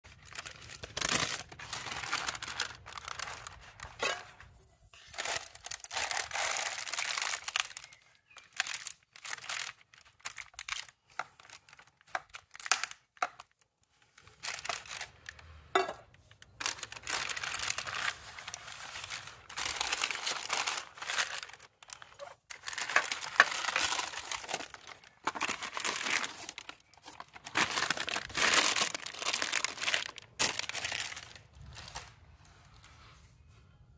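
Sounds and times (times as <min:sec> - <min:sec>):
baking paper crinkling: 0:00.1 - 0:33.2.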